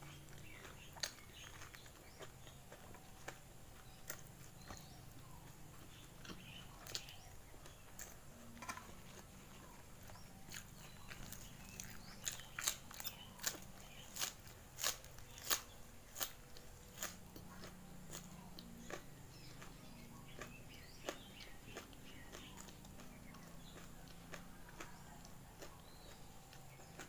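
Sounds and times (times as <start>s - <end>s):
loud crunchy chewing: 0.0s - 27.0s.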